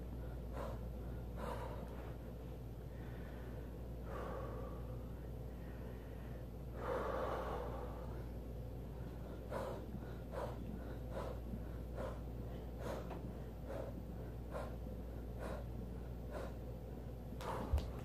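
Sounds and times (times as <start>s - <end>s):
man breathing forcefully: 0.0s - 18.0s.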